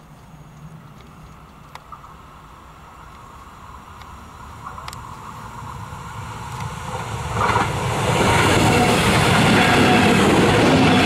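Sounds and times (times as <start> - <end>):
electric train passing: 0.0 - 11.0
wheels rushing on rails: 0.0 - 11.0.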